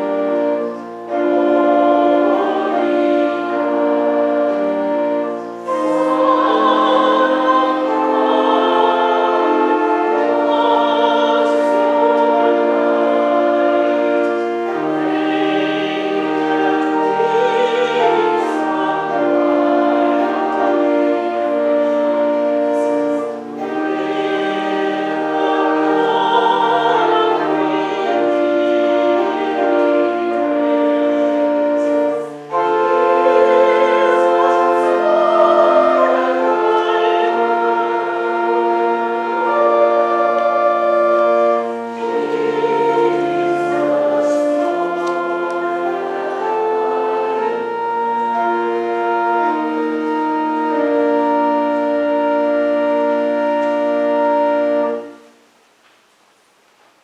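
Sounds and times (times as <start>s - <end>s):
voices singing: 0.0s - 55.2s
pipe organ playing a hymn: 0.0s - 55.4s.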